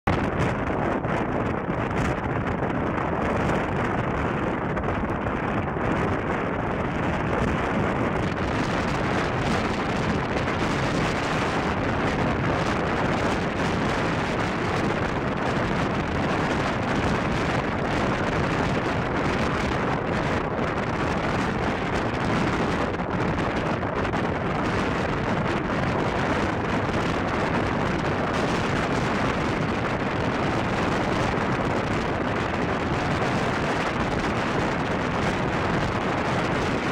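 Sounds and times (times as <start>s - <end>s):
wind buffeting microphone: 0.1s - 36.9s.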